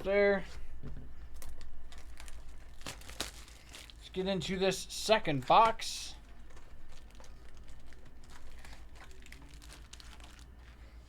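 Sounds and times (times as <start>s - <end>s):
cardboard and card packs crinkling: 0.3s - 11.0s.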